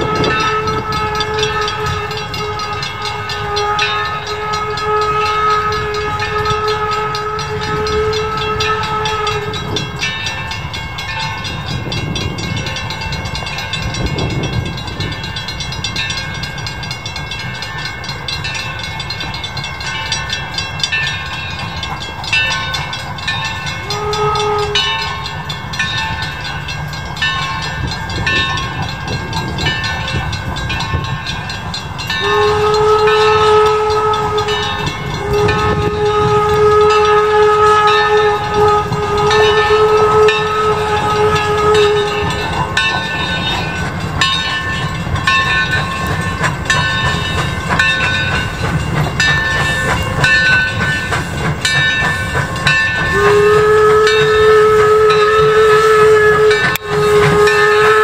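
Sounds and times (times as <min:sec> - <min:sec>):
steam whistle blowing: 0:00.0 - 0:16.1, 0:17.2 - 0:31.2, 0:32.0 - 0:58.0
locomotive low rumble: 0:00.0 - 0:58.0.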